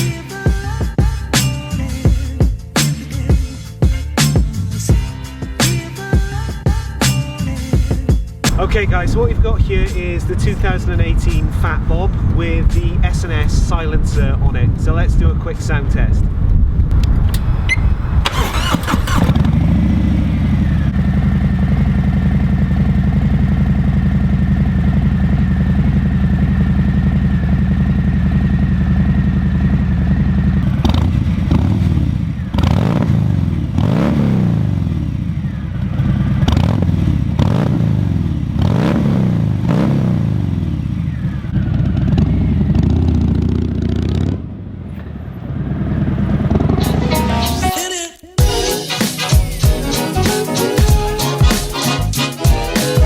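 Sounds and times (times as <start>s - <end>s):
motorcycle engine idling and revving: 0.0s - 47.7s.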